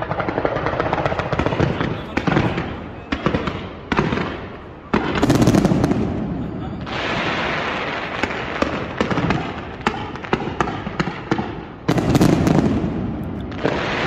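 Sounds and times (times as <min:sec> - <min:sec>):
fireworks bangs and pops: 0:00.0 - 0:14.0
fireworks crackling and hissing: 0:00.0 - 0:14.0.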